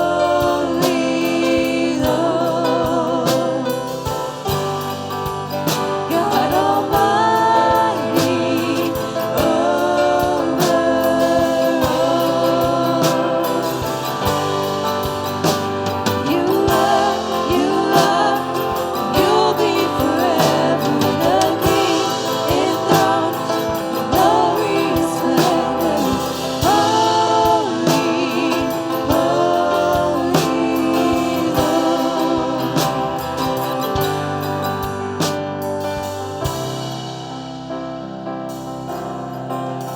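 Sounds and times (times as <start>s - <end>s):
instrumental accompaniment: 0.0s - 39.9s
voices singing slow worship song: 0.0s - 39.9s.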